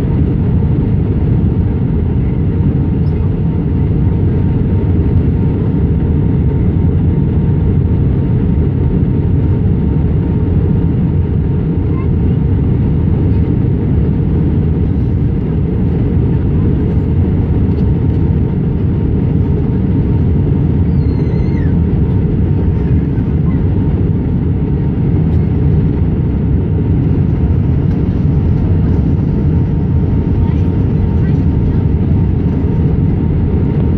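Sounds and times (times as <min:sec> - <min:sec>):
airplane cabin roar: 0:00.0 - 0:33.9.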